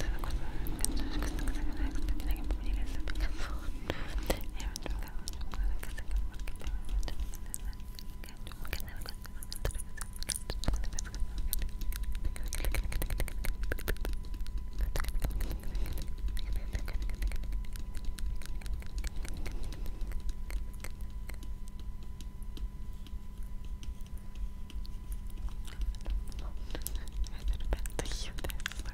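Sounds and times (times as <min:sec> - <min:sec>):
electrical hum and rumble: 0:00.0 - 0:28.9.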